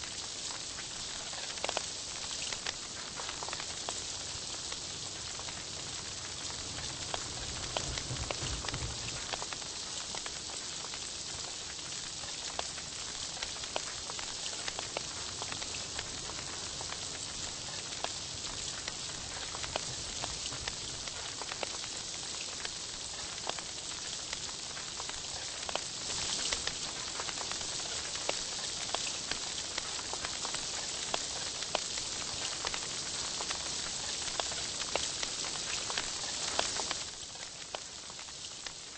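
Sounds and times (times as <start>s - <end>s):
meat sizzling on a grill: 0.0s - 38.9s.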